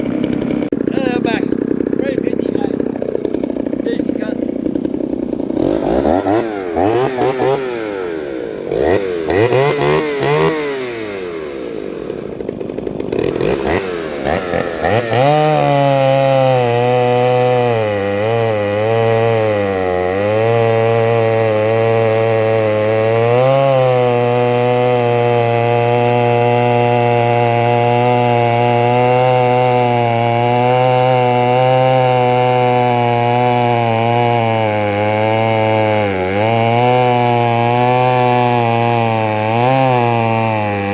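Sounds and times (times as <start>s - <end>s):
chainsaw cutting through wood: 0.0s - 40.9s
chainsaw revving: 0.0s - 40.9s.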